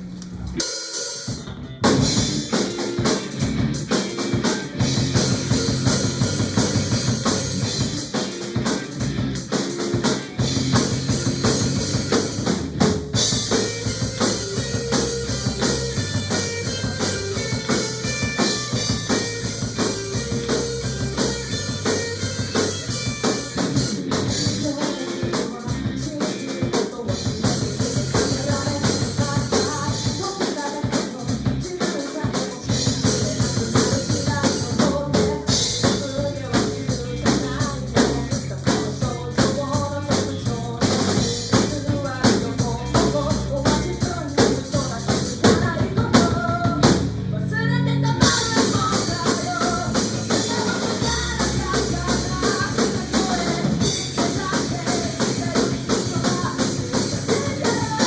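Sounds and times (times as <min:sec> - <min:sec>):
band playing: 0:00.0 - 0:58.0
drum kit beat: 0:00.0 - 0:58.0.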